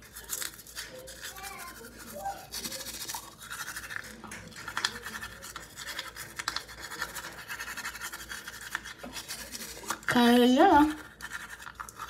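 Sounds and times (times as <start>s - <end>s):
toothbrush scrubbing teeth: 0.0s - 12.0s.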